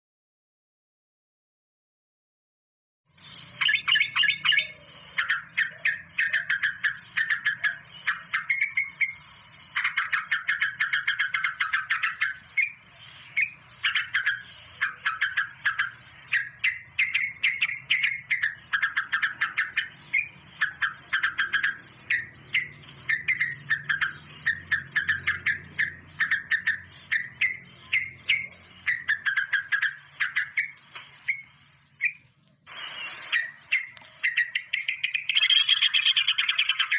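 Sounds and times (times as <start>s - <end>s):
bird chattering calls: 3.4s - 36.9s.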